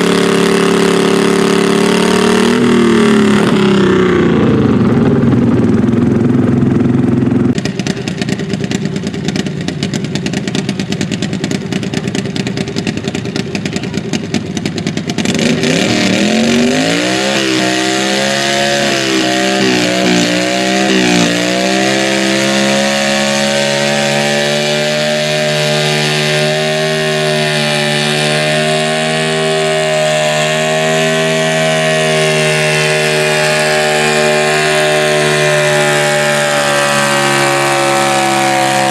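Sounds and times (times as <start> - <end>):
tractor engine rough pulsing: 0.0 - 38.9.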